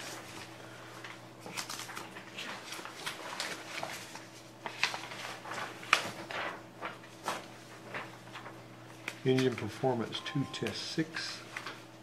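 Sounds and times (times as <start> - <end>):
faint steady hum: 0.0 - 12.0
paper sheets rustling: 0.0 - 12.0.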